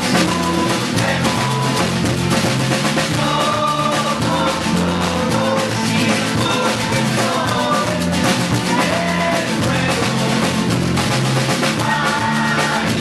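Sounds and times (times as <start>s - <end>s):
drum kit: 0.0s - 13.0s
guitar: 0.0s - 13.0s
live band playing: 0.0s - 13.0s.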